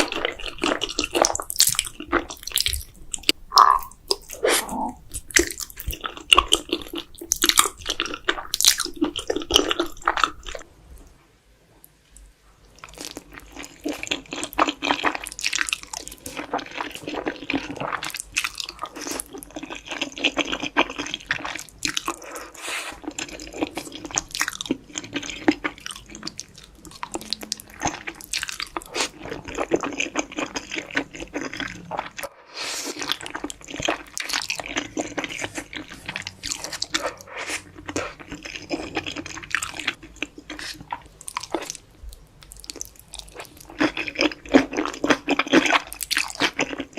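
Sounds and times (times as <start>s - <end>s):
wet chewing of noodles: 0.0s - 10.6s, 12.6s - 46.9s.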